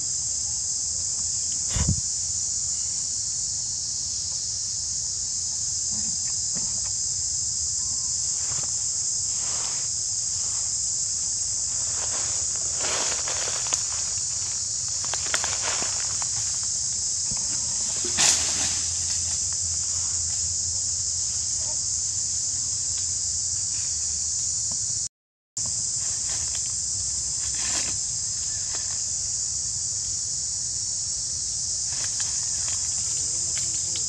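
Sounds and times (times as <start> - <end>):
forest insects droning: 0.0 - 34.0.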